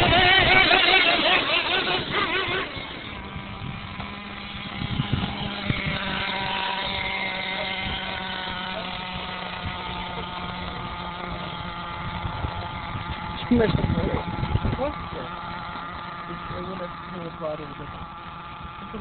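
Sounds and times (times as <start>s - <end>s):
small engine buzzing: 0.0s - 19.0s.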